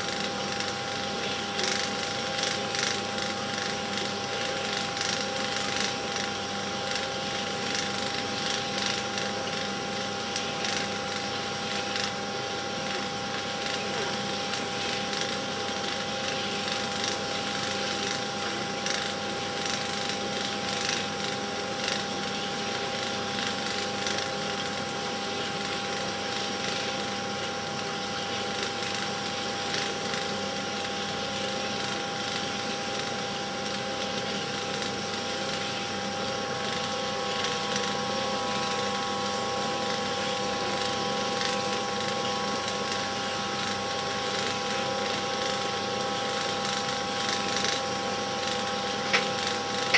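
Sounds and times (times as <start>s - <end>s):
faint ticking film mechanism: 0.0s - 27.1s, 27.7s - 38.0s, 38.6s - 49.9s
film projector whirring: 0.0s - 49.9s.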